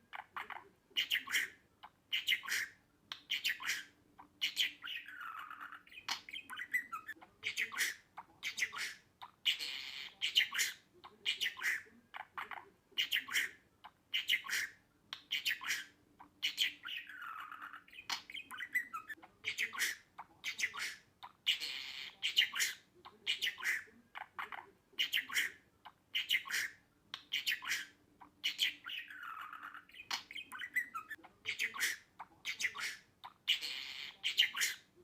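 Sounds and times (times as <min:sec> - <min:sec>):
budgerigar chirps and squawks: 0:00.0 - 0:35.0.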